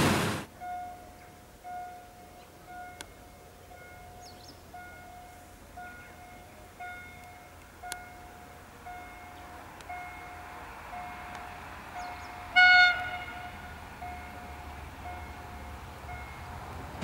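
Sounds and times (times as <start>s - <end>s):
faint approaching train: 0.0s - 17.0s
crossing signal beeping: 0.6s - 16.9s.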